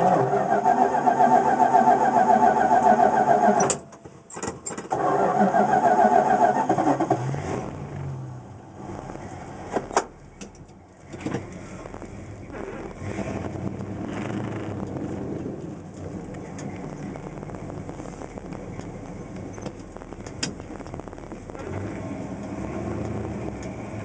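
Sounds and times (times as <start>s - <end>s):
car engine running and revving: 0.0s - 3.7s, 5.0s - 24.0s.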